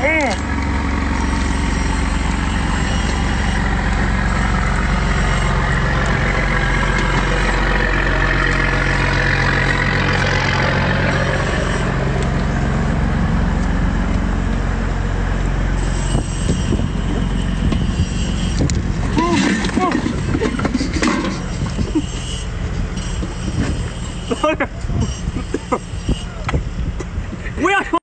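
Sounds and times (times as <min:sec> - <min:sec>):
boat engine idling: 0:00.0 - 0:27.5.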